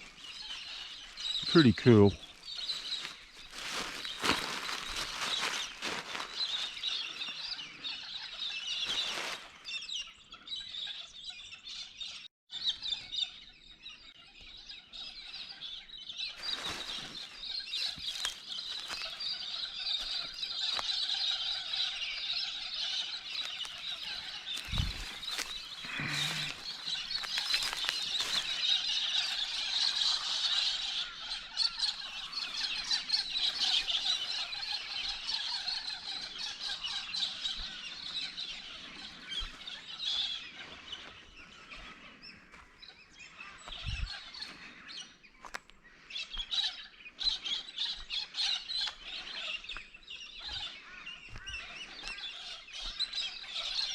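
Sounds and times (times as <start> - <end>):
many birds chattering: 0.0 - 53.9.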